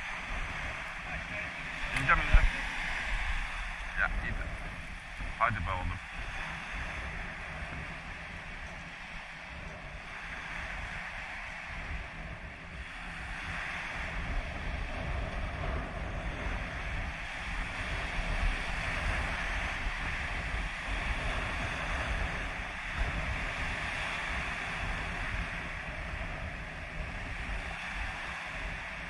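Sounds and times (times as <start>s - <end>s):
waves washing on pebble beach: 0.0s - 29.0s
wind buffeting microphone: 0.0s - 29.0s.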